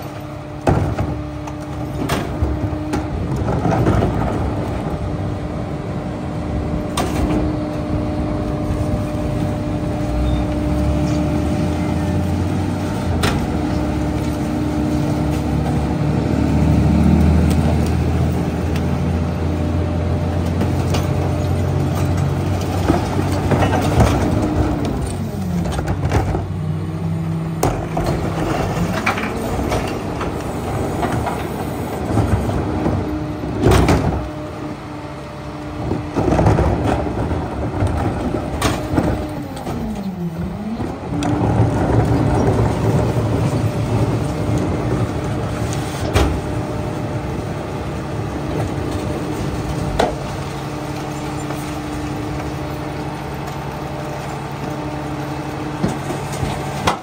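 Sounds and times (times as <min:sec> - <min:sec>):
garbage truck engine running: 0:00.0 - 0:57.0.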